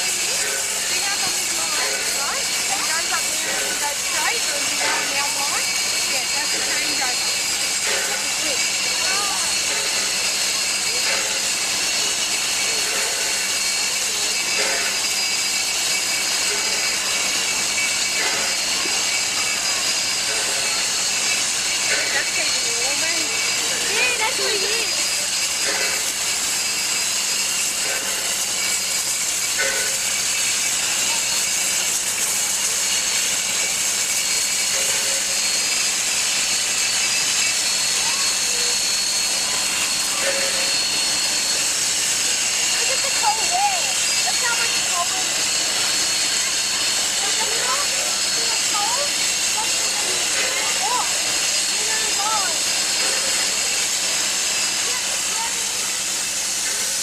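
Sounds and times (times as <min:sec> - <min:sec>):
steam hissing from locomotive: 0:00.0 - 0:57.0.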